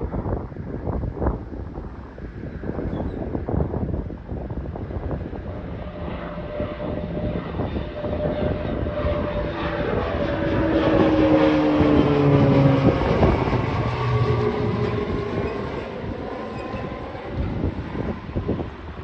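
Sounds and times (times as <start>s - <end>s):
airplane engines taking off: 0.0s - 19.0s.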